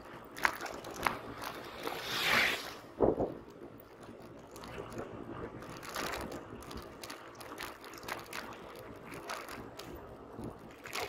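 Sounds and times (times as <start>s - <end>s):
bike tyres rumbling on paving: 0.0s - 11.0s.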